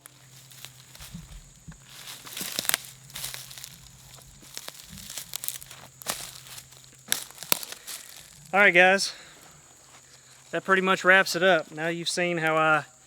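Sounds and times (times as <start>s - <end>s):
rustling and crinkling: 0.0s - 10.6s.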